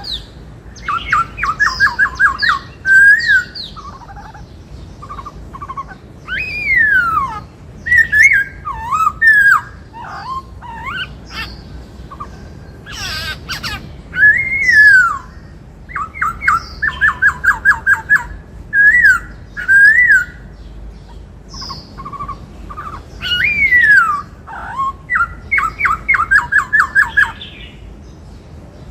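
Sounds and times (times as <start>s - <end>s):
bird singing whistled phrases: 0.0s - 4.4s, 5.0s - 20.5s, 21.5s - 27.8s
harsh rasping bird call: 0.0s - 27.8s.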